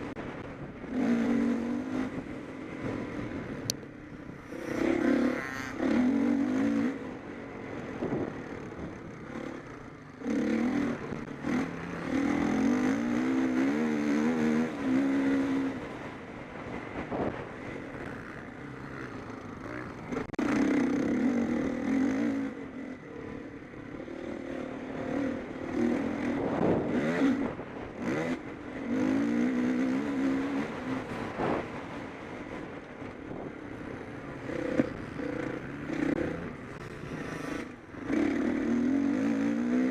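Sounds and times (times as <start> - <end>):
motocross bikes revving past: 0.0 - 3.6, 4.2 - 39.9.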